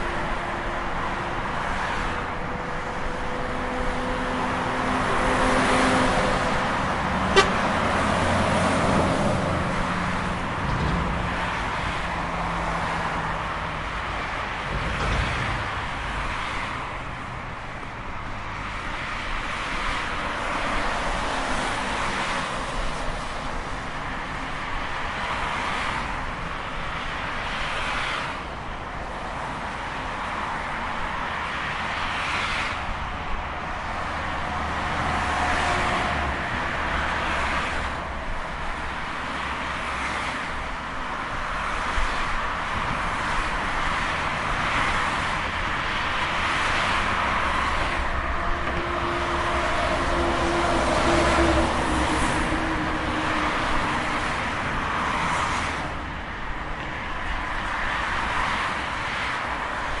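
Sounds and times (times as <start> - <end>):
cars passing: 0.0 - 60.0
highway traffic rush: 0.0 - 60.0.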